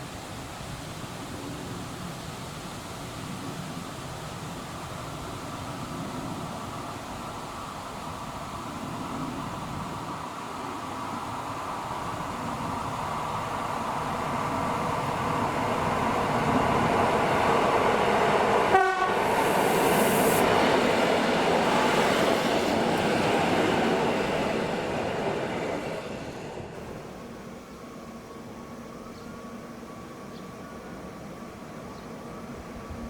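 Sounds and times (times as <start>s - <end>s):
train wheels rolling on rails: 3.1s - 33.0s.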